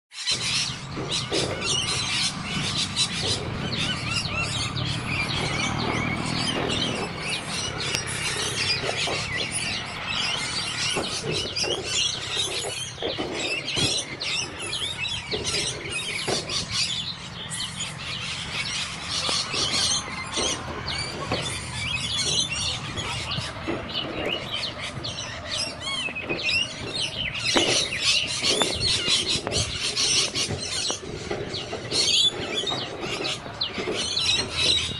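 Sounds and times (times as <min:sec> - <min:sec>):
birds chirping and calling: 0:00.1 - 0:34.9.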